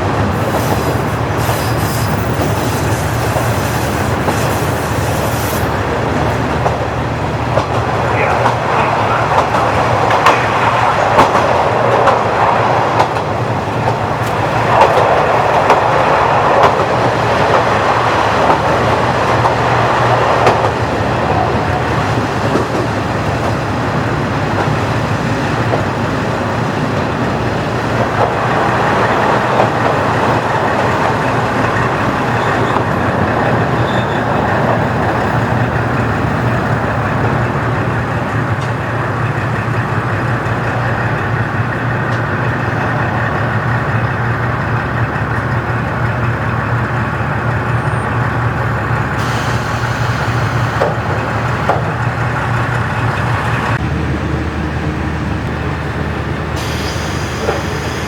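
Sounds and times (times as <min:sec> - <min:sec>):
diesel engine humming: 0:00.0 - 0:58.0
train wheels on rails: 0:00.0 - 0:58.0.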